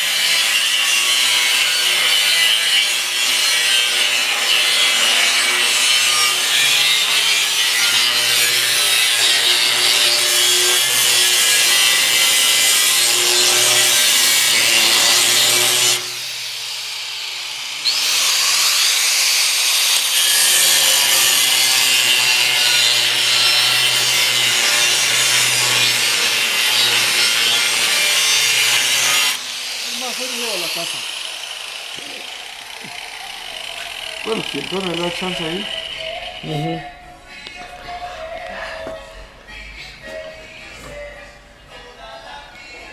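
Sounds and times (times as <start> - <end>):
power tool grinding: 0.0 - 38.4.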